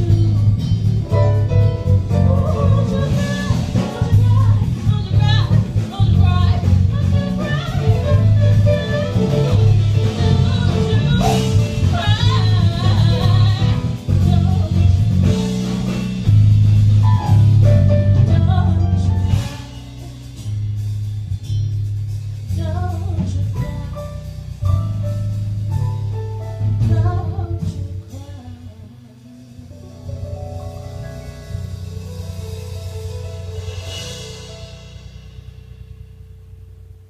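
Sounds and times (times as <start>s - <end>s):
jazz band playing: 0.0s - 37.0s.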